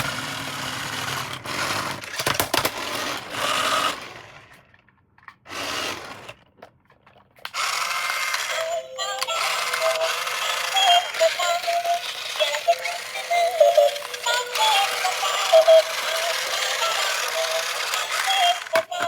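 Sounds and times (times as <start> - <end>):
toy car electric motor whirring: 0.0 - 4.8, 5.4 - 6.4, 7.5 - 19.0.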